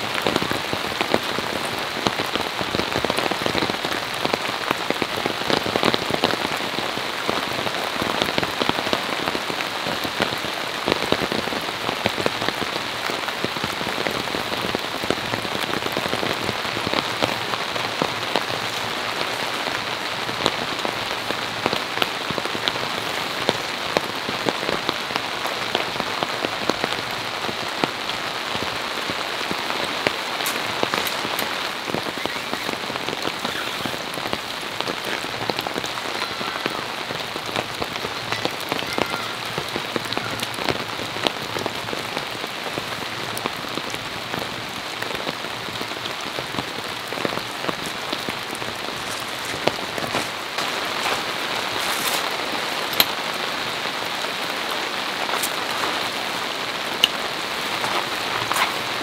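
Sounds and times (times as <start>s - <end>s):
raindrops striking close by: 0.0s - 59.0s
steady rain falling: 0.0s - 59.0s.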